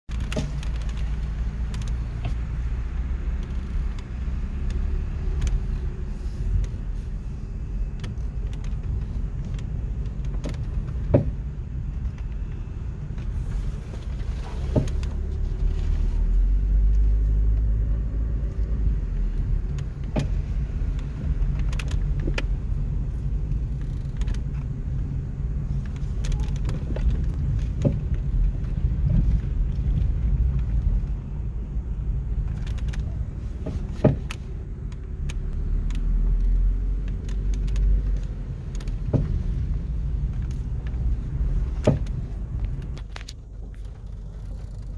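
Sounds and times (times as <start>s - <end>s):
car rolling with low rumble: 0.0s - 44.9s
suspension clicks and clunks: 0.0s - 44.9s.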